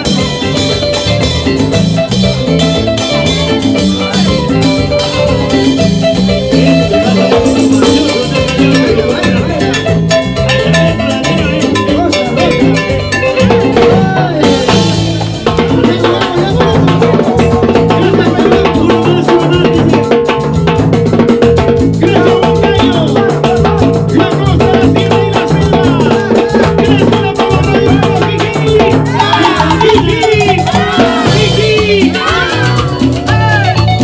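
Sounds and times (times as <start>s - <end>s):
live band playing latin dance music: 0.0s - 34.0s.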